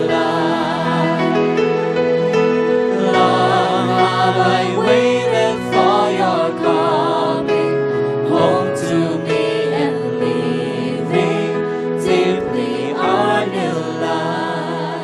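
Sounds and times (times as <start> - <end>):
sustained instrumental chords: 0.0 - 15.0
voices singing with vibrato: 0.0 - 15.0.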